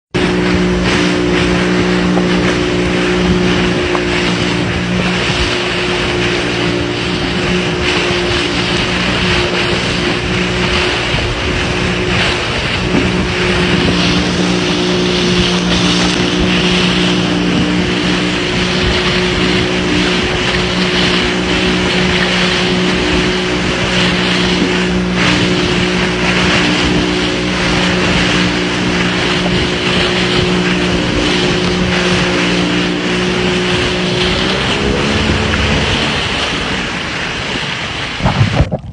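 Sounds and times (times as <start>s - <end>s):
water rushing along hull: 0.0s - 38.9s
motorboat engine drone: 0.1s - 38.9s.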